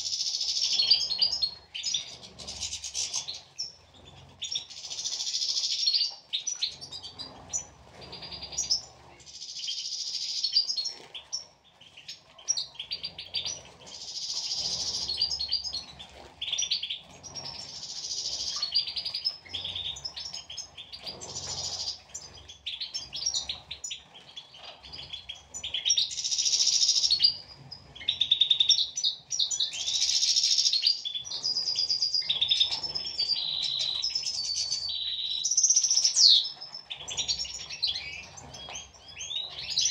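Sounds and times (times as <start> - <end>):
finches twittering song: 0.0 - 39.9.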